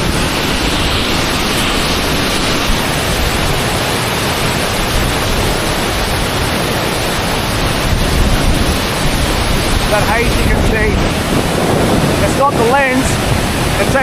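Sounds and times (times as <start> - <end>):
roar of falling water: 0.0 - 14.0
wind buffeting microphone: 0.0 - 14.0.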